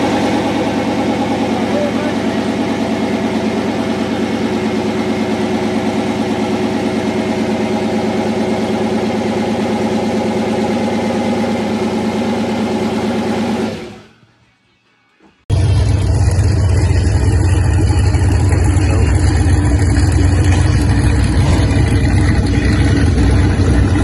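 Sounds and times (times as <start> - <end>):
car engine idling: 0.0 - 14.1, 15.5 - 24.0.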